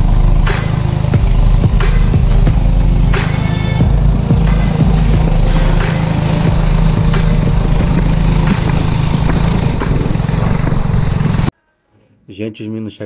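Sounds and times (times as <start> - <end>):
small boat motor running: 0.0 - 11.5.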